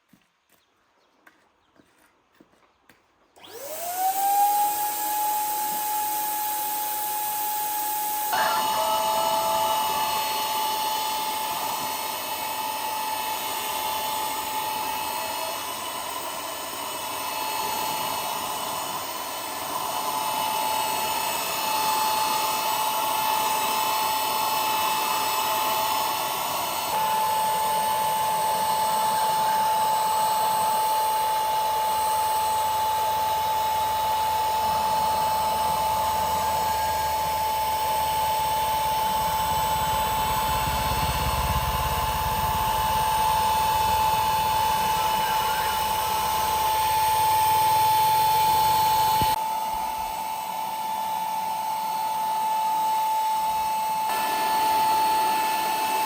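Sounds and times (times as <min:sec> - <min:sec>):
tool working rough noise: 0:03.4 - 0:49.4
power tool motor whine: 0:03.4 - 0:56.0.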